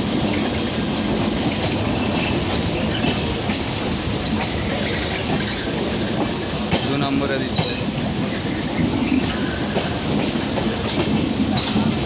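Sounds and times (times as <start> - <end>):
passenger coaches rumbling past: 0.0 - 12.0.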